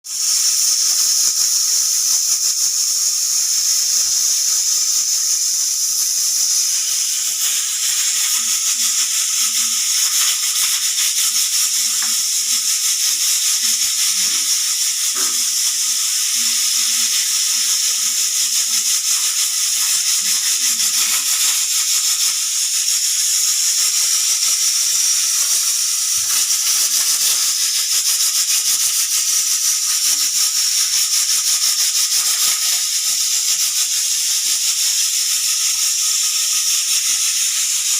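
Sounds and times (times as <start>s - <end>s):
pressure cooker whistling: 0.0s - 37.9s.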